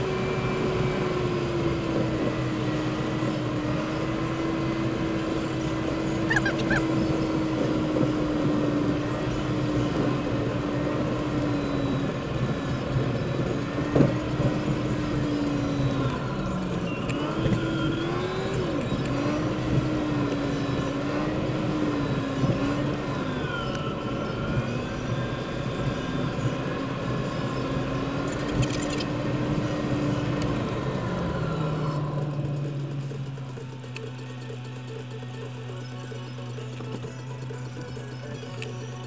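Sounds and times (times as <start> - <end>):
car engine: 0.0 - 39.0
tyre and road noise: 0.0 - 39.0.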